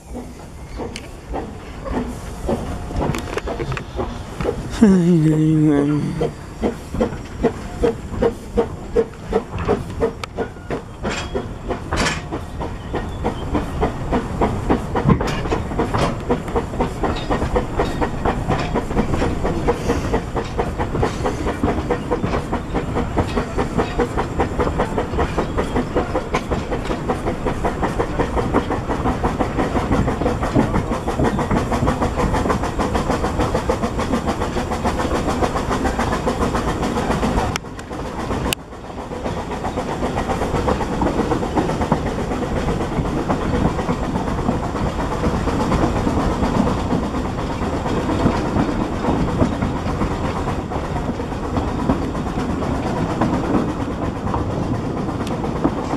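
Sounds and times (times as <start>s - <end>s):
steam hissing: 0.0s - 55.8s
steam locomotive exhaust beats: 0.0s - 55.9s
wheels clicking over rail joints: 0.1s - 4.8s, 6.0s - 55.9s.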